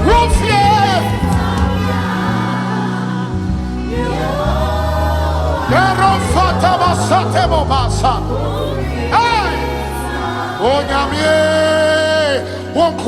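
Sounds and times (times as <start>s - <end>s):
band with bass and keyboard: 0.0s - 13.0s
choir and congregation singing: 0.0s - 13.0s.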